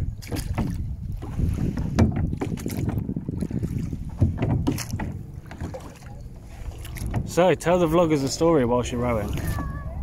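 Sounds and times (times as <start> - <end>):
oars knocking on hull: 0.0 - 8.1, 9.2 - 10.0
wind rumble on microphone: 0.0 - 10.0.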